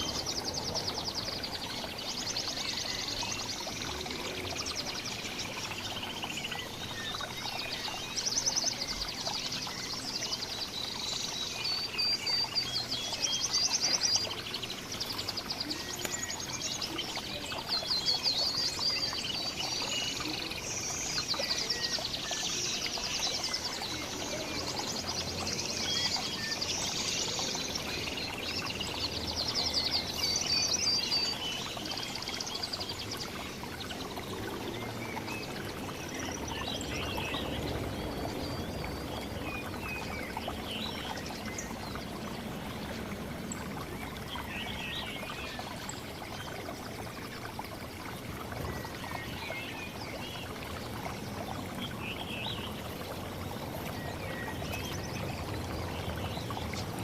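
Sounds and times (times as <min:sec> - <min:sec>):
songbirds chirping and singing: 0:00.0 - 0:57.0.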